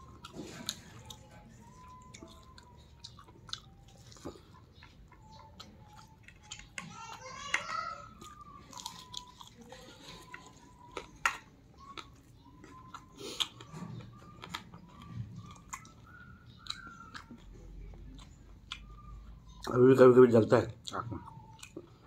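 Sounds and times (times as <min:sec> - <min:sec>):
man chewing food: 0:00.0 - 0:22.0.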